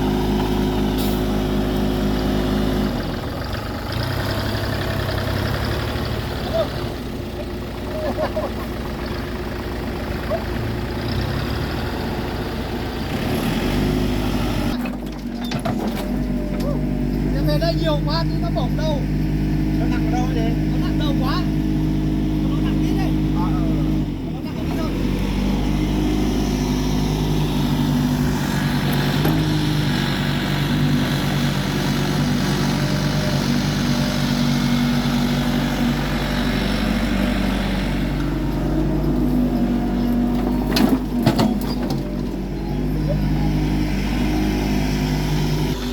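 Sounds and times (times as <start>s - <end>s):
farm machinery engine running: 0.0s - 45.9s.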